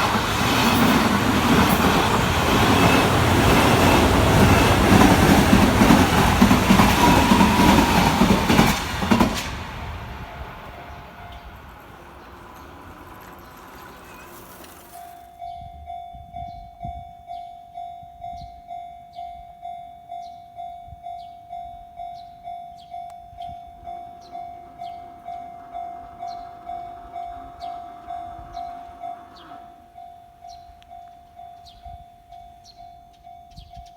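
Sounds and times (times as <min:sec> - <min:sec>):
crossing alarm bell ringing: 0:00.0 - 0:09.2, 0:10.0 - 0:33.9
train passing: 0:00.0 - 0:18.8, 0:20.4 - 0:33.6.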